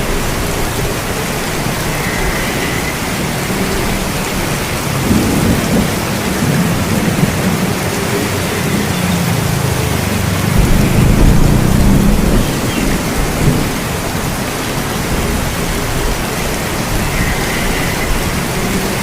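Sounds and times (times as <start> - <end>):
low rolling thunder: 0.0 - 19.0
steady rain: 0.0 - 19.0.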